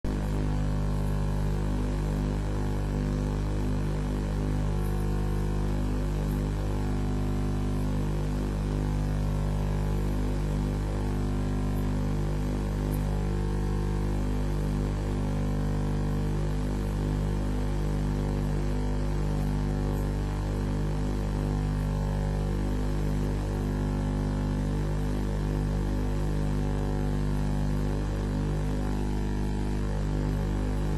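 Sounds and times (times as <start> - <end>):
electrical hum and buzz: 0.0 - 30.9.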